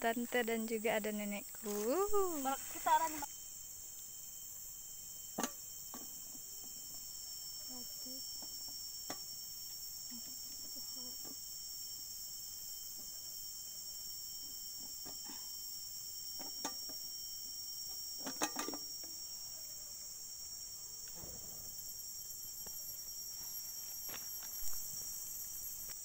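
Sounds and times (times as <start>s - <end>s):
forest insects droning: 0.0s - 26.0s.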